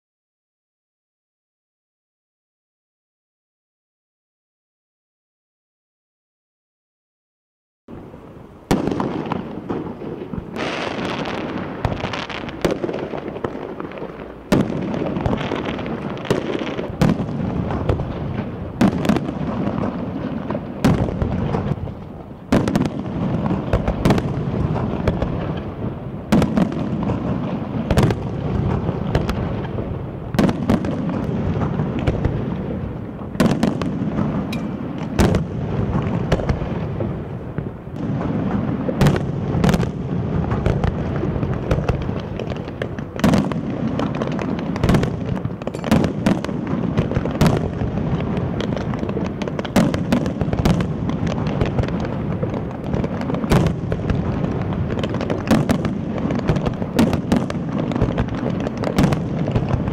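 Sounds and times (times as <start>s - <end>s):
fireworks bangs: 7.9s - 59.9s.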